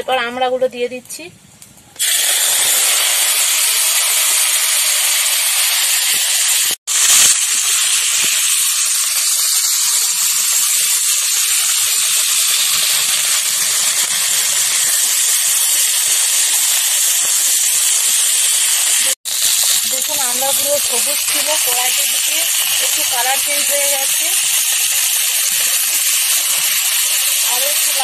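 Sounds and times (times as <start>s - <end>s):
food sizzling in hot oil: 2.0s - 28.0s.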